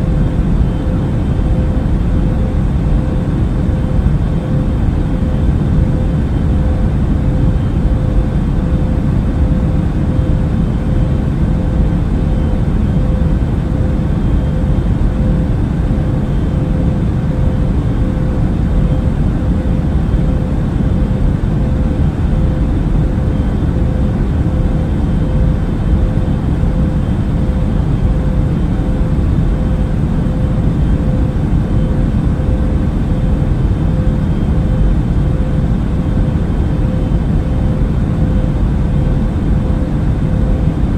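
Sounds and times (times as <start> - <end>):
airliner cabin engine rush: 0.0 - 40.9
faint even hum: 0.0 - 40.9.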